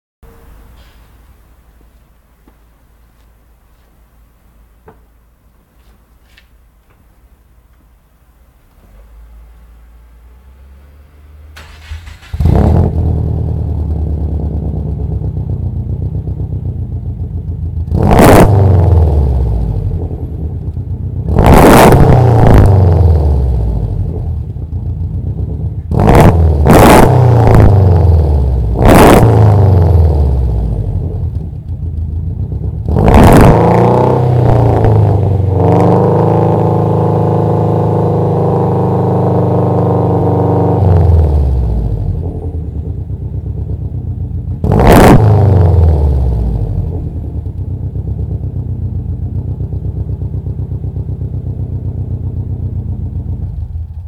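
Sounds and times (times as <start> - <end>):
car engine idling and revving: 8.7 - 54.0.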